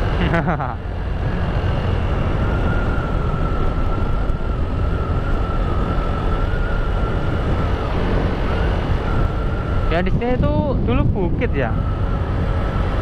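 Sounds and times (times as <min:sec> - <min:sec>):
motorcycle engine whine: 0:00.0 - 0:13.0
wind rumble on microphone: 0:00.0 - 0:13.0.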